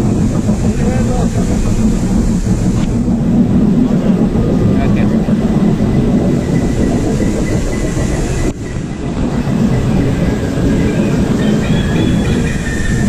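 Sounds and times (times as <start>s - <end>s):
raft ride rumble and clatter: 0.0s - 13.0s.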